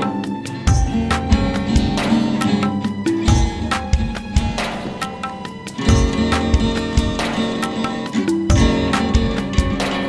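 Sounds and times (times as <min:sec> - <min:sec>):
percussion beat: 0:00.0 - 0:10.0
plucked string instrument: 0:00.0 - 0:10.0.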